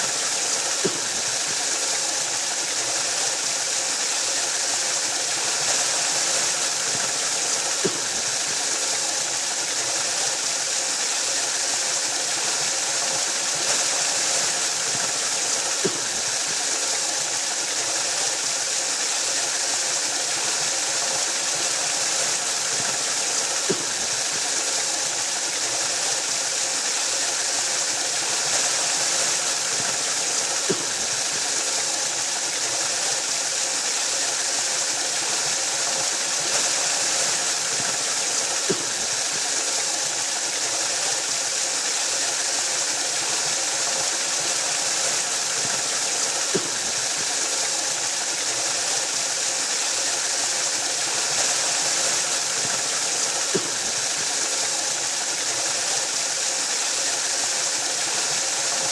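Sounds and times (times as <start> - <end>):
waterfall rushing: 0.0 - 58.9.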